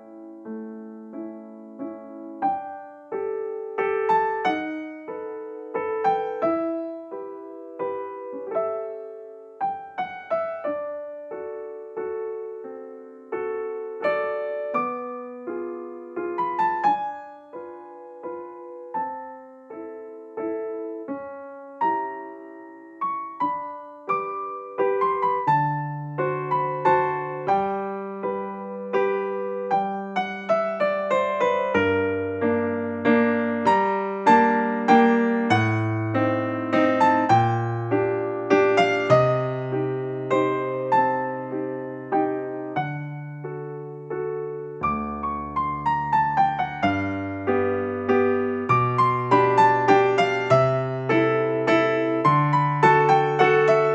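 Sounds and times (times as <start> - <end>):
slow piano melody: 0.0 - 53.9.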